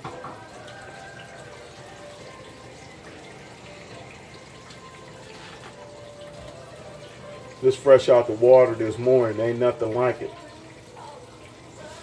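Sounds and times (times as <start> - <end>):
frying oil sizzling: 0.0 - 12.0.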